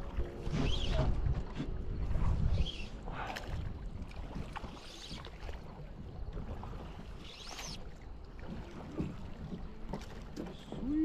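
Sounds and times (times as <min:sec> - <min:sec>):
river water lapping: 0:00.0 - 0:11.0.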